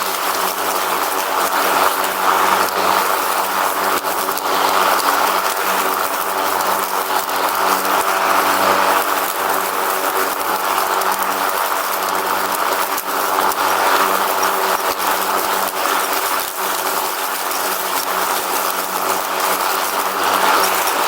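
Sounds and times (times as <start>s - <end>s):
lawn mower engine hum: 0.0s - 21.0s
small clicks and rattles: 0.0s - 21.0s.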